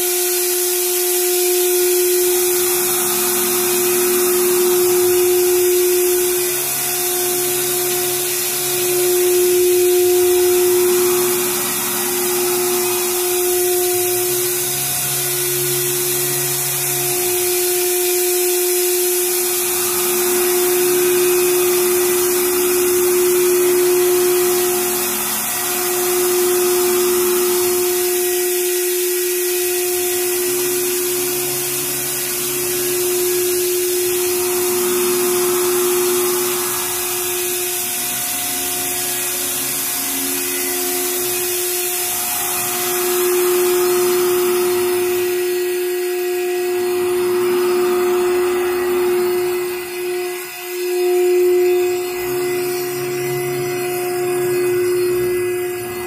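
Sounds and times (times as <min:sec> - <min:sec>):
router spindle whine: 0:00.0 - 0:56.0
low motor hum: 0:01.1 - 0:40.0, 0:40.7 - 0:56.0.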